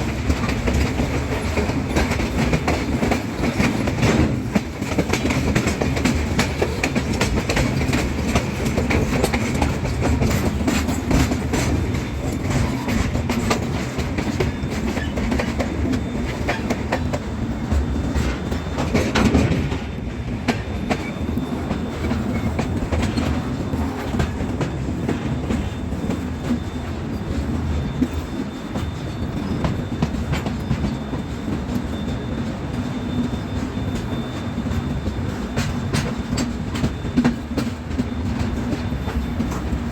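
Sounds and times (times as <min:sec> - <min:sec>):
train wheels rumbling on rails: 0:00.0 - 0:39.9
wheels clickety-clack over rail joints: 0:00.0 - 0:39.9.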